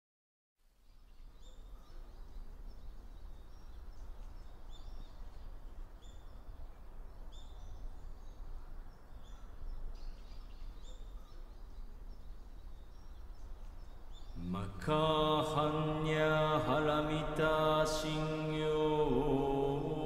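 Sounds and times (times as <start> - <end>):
birds chirping: 0.9 - 20.0.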